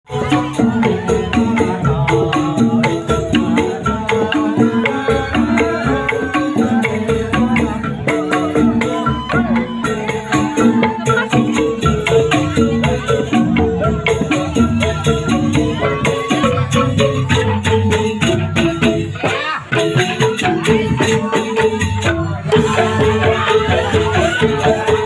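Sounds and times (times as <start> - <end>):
fast percussion beat: 0.1 - 25.0
melodic instrumental notes: 0.1 - 25.0.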